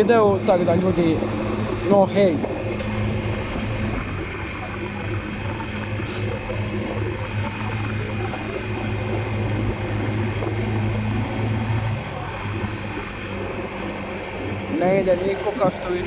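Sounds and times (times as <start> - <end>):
scooter engine droning: 0.0 - 16.0.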